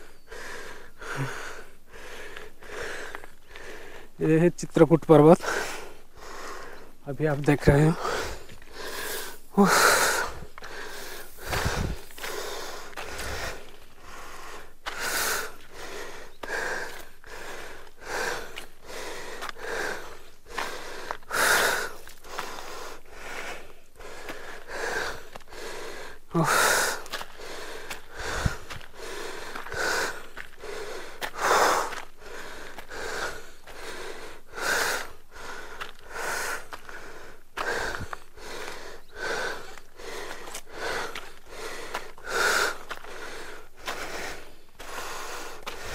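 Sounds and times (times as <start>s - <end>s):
person panting: 0.0s - 4.2s, 5.3s - 7.0s, 7.6s - 45.9s.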